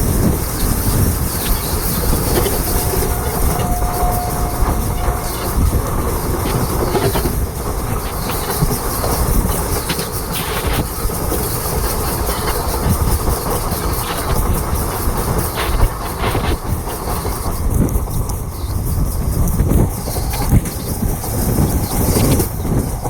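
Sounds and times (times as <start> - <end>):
train rumbling: 0.0 - 23.0
wheel clatter over rail joints: 0.0 - 23.0.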